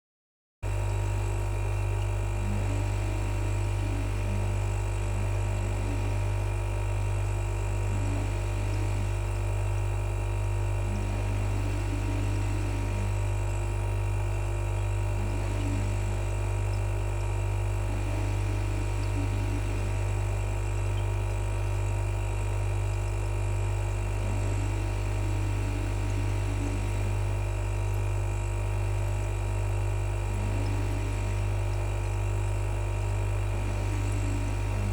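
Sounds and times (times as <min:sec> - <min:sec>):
fan humming and whirring: 0:00.6 - 0:34.9.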